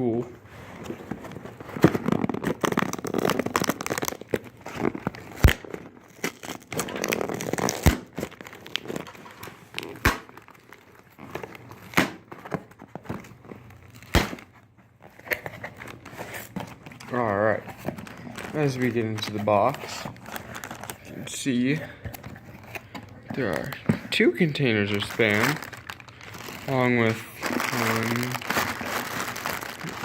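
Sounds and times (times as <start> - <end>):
air cushions crinkling: 0.5 - 30.0.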